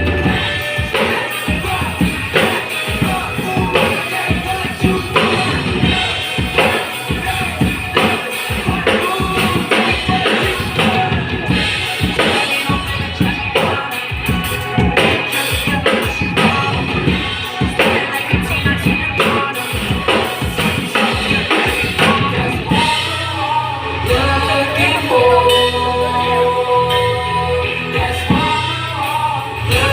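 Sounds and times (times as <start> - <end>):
backing track music: 0.0 - 29.9
drum kit playing: 0.0 - 29.9.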